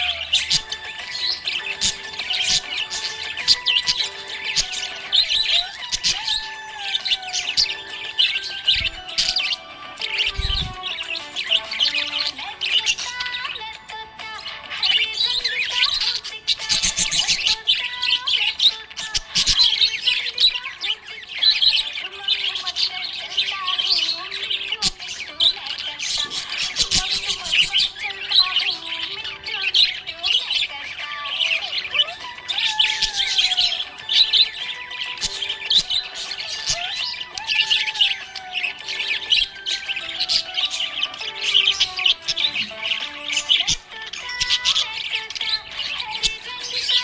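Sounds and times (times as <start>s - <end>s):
budgerigars chirping: 0.0s - 47.0s.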